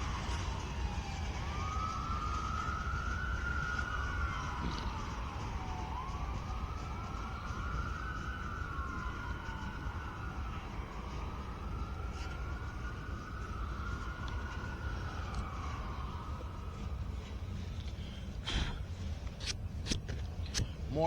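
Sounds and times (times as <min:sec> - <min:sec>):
emergency vehicle siren wailing: 0:00.0 - 0:18.4.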